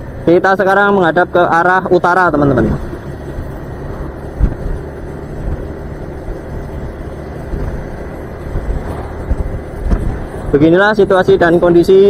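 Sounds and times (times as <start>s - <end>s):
city traffic: 0.0s - 12.0s
scooter engine and road noise: 0.0s - 12.0s.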